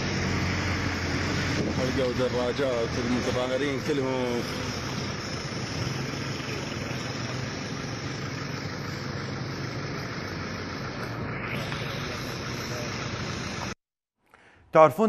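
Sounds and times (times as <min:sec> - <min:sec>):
low engine hum: 0:00.0 - 0:13.8
road noise rushing: 0:00.0 - 0:13.8.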